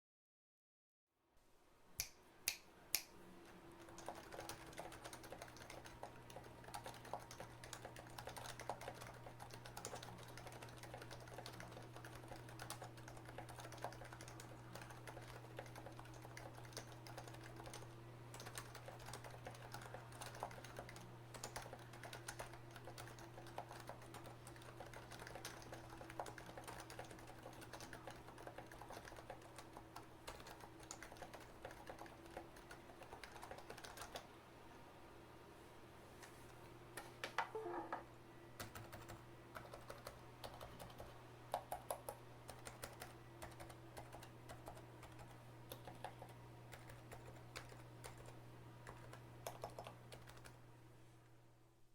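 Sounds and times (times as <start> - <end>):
fast typing on keyboard: 3.8 - 34.3, 38.6 - 50.6.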